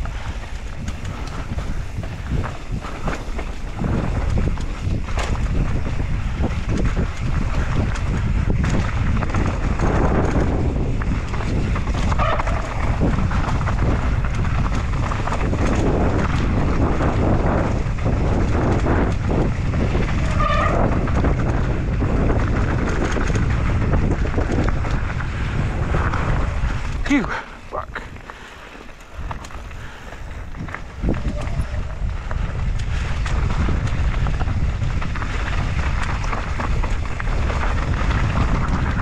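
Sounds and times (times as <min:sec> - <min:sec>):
bike rattling over dirt trail: 0:00.0 - 0:39.0
wind buffeting microphone: 0:00.0 - 0:39.0.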